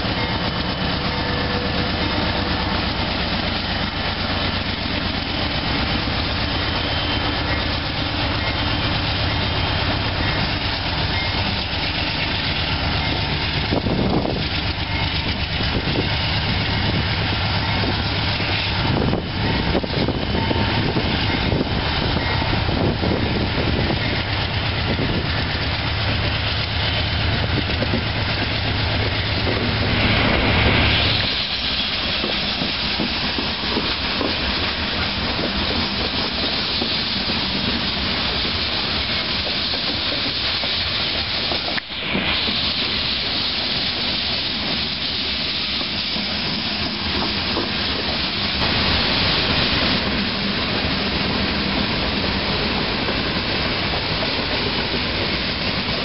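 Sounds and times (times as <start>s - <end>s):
diesel locomotive rumble: 0.0s - 56.0s
rolling noise of train cars: 0.0s - 56.0s
train clunks: 0.0s - 56.0s.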